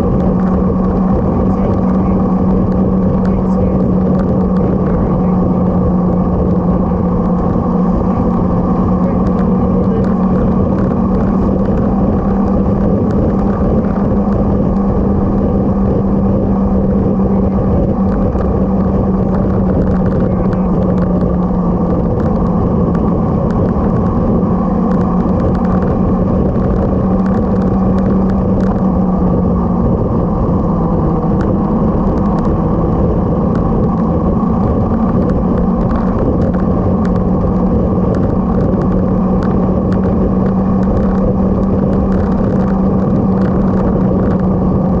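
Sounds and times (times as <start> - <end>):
motorcycle engine running: 0.0 - 45.0
road noise: 0.0 - 45.0.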